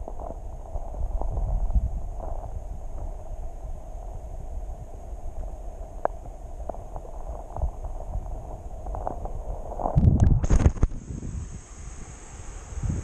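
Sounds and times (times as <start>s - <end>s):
muffled underwater rumble: 0.0s - 11.6s.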